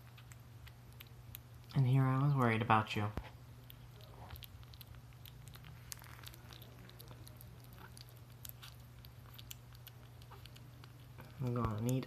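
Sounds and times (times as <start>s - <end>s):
kitten chewing and lapping: 0.0s - 12.0s
steady low hum: 0.0s - 12.0s.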